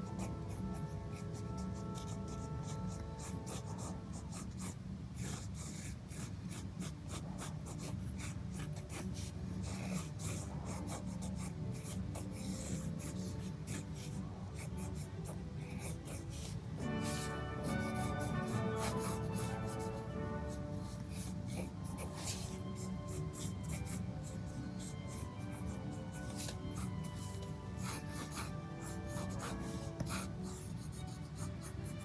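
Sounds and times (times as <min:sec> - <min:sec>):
pen scratching on paper: 0:00.0 - 0:32.0
soft background music: 0:00.0 - 0:32.0.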